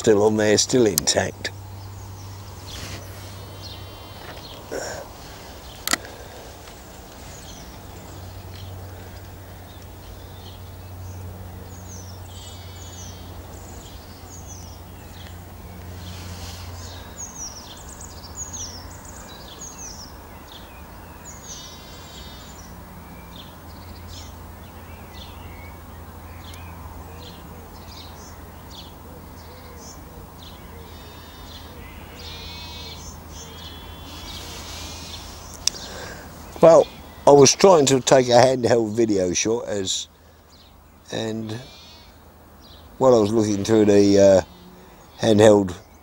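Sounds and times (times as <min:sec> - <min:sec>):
songbirds singing: 0:00.0 - 0:46.0.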